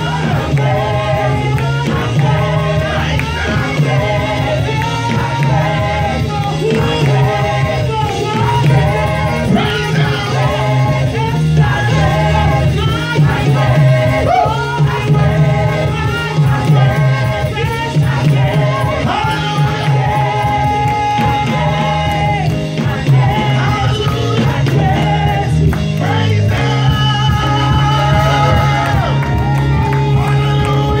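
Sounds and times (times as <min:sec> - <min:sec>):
bass line: 0:00.0 - 0:31.0
choir singing: 0:00.0 - 0:31.0
drums: 0:00.0 - 0:31.0
keyboard: 0:00.0 - 0:31.0.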